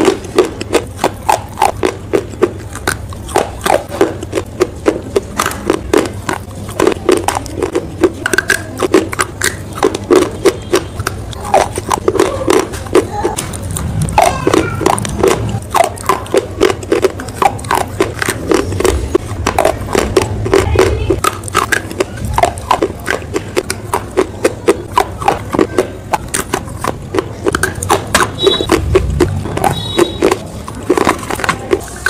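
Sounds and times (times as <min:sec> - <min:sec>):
crunching and chewing brittle bars: 0:00.0 - 0:32.0.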